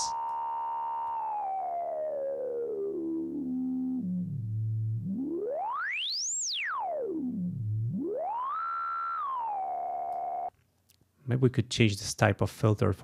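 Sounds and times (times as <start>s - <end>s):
synthesizer low note filter sweep: 0.0s - 10.5s.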